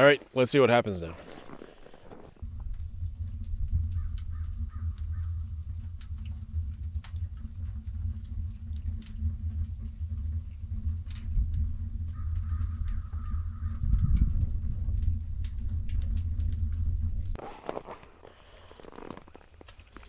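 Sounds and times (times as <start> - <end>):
wood fire crackling and popping: 0.0 - 20.0
low rumble of stove: 2.3 - 20.0.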